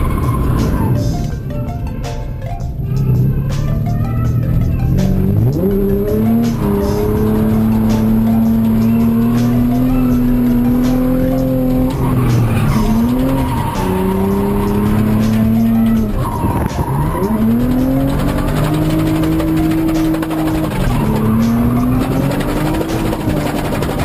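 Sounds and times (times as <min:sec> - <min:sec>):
car engine revving: 0:00.0 - 0:01.5, 0:02.8 - 0:24.0
tyres skidding and squealing: 0:00.0 - 0:01.6, 0:02.7 - 0:24.0.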